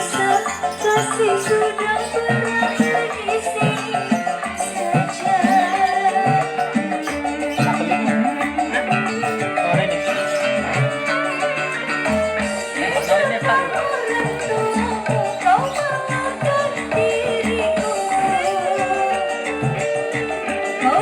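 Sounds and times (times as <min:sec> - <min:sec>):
song with drums and melody: 0:00.0 - 0:21.0.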